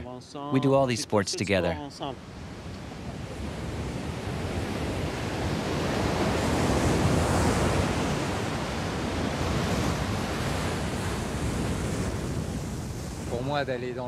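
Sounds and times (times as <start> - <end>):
ocean waves breaking: 0.0 - 14.0
wind: 0.0 - 14.0.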